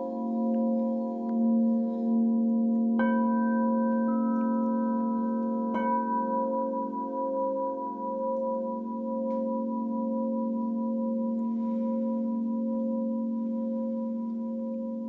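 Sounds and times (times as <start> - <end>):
crystal singing bowls ringing: 0.0 - 15.0.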